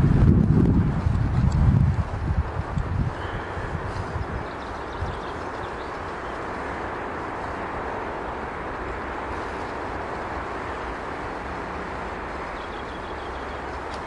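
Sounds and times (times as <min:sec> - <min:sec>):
distant road traffic roar: 0:00.0 - 0:14.0.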